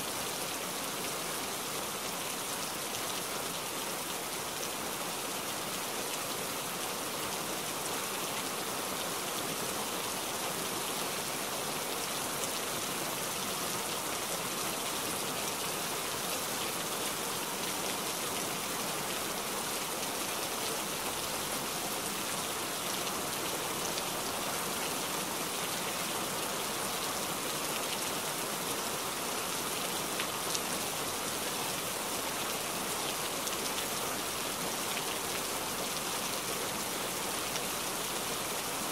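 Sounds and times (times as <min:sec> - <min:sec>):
rain falling on floodwater: 0:00.0 - 0:38.9.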